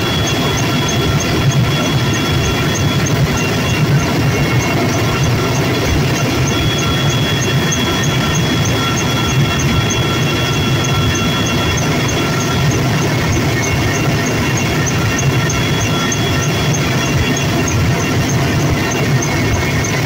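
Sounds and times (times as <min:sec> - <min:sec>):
helicopter engine and rotor rumble: 0:00.0 - 0:20.0
high-pitched whines: 0:00.0 - 0:20.0.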